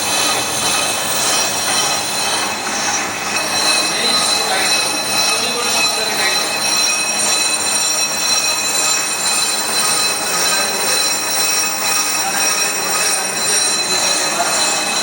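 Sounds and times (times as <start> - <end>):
cutting tool squealing: 0.0 - 15.0
lathe metallic scraping: 0.0 - 15.0.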